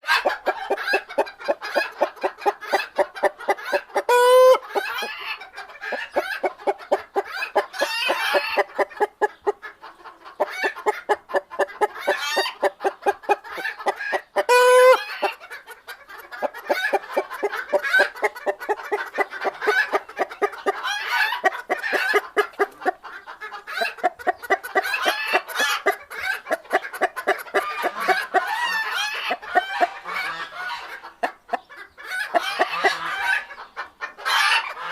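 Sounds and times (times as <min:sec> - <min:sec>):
chicken drawn-out high calls: 0:00.0 - 0:34.9
chickens clucking: 0:00.0 - 0:34.9.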